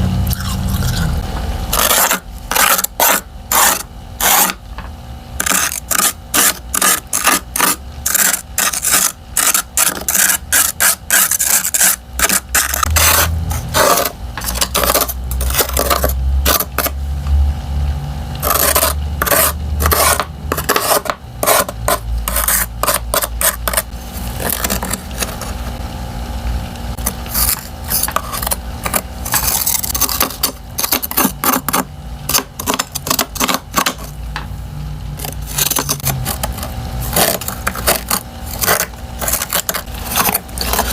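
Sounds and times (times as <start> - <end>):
ice being scraped: 0.3 - 4.6, 5.4 - 17.0, 18.4 - 25.6, 27.0 - 34.2, 35.2 - 40.9.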